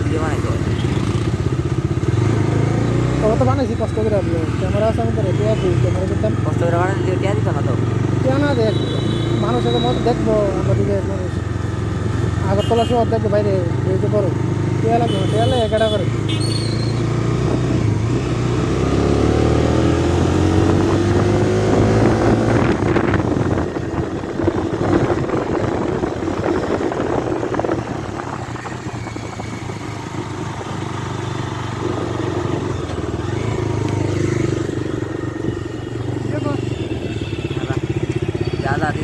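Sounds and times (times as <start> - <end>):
motorcycle engine running: 0.0 - 39.0
road and wind noise: 0.0 - 39.0.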